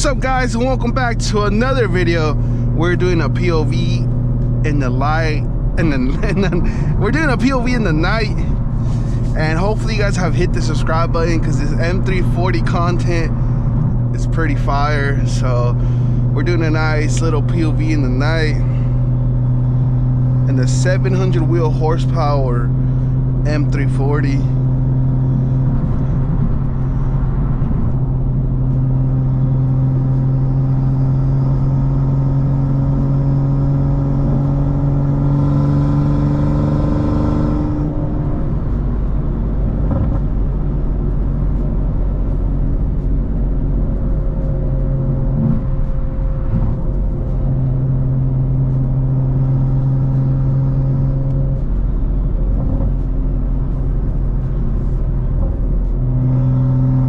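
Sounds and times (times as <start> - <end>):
car engine droning at cruising revs: 0.0 - 57.0.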